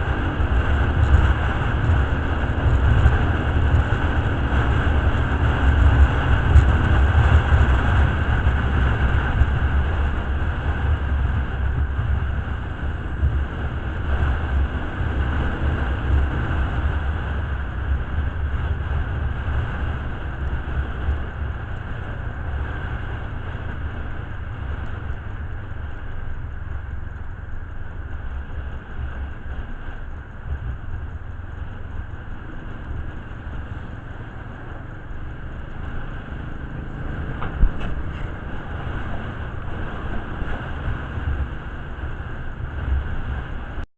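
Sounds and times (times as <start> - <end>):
vehicle low rumble: 0.0 - 43.9.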